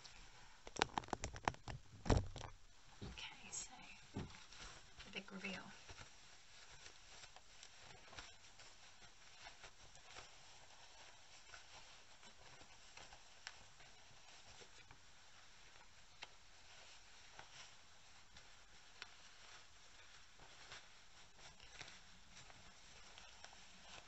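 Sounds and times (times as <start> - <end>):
fabric rustling: 0.0 - 24.0.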